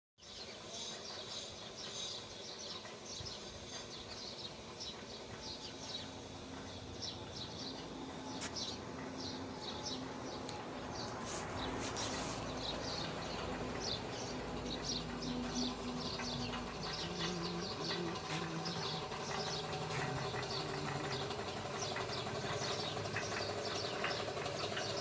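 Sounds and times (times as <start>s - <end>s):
outdoor background noise: 0.2s - 25.0s
small birds chirping: 0.2s - 25.0s.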